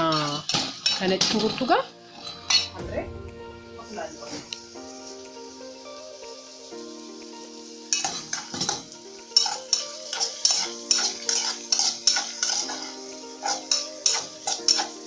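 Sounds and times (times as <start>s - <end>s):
utensil scraping in frying pan: 0.0s - 2.8s, 3.6s - 15.0s
oil sizzling: 0.0s - 15.0s.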